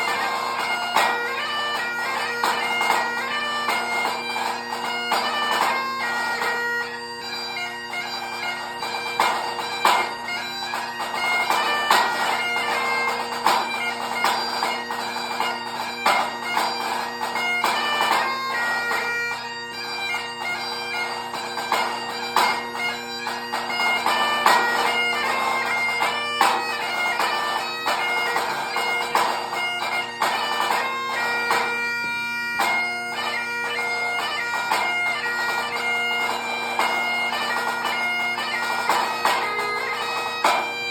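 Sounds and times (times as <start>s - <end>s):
bagpipe playing: 0.0s - 40.9s.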